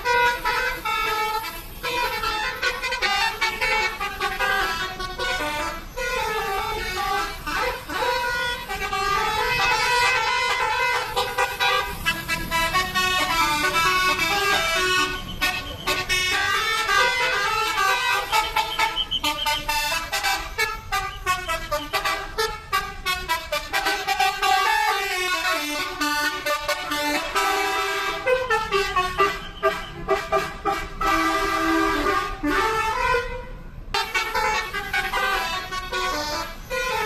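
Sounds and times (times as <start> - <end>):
multi-tone bus horn tune: 0.0 - 37.0.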